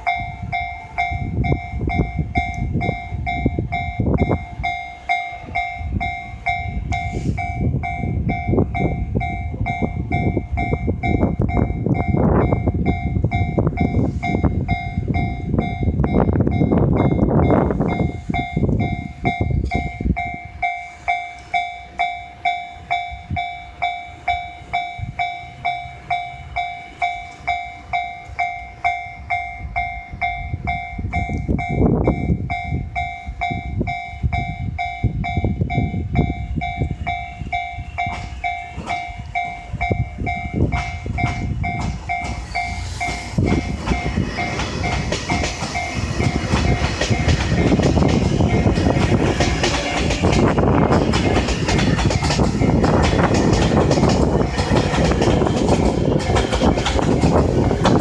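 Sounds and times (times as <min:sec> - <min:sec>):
level-crossing warning bell ringing: 0:00.0 - 0:58.0
train rumbling past: 0:00.0 - 0:58.0
train wheel clatter: 0:00.0 - 0:58.0.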